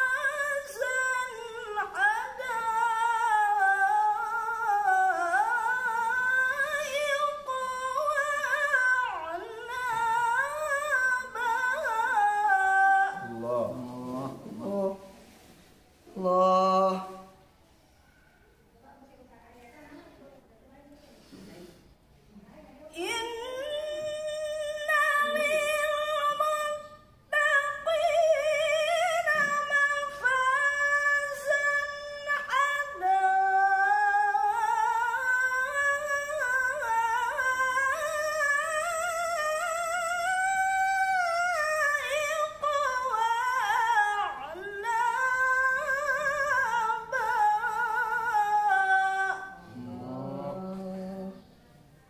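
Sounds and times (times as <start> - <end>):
woman reciting melodically: 0.0 - 17.5, 22.4 - 51.8.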